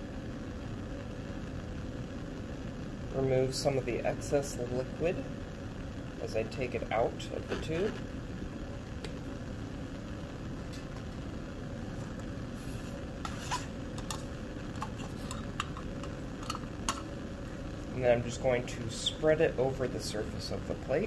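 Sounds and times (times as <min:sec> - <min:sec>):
faint hum: 0:00.0 - 0:21.0
low rushing background: 0:00.0 - 0:21.0.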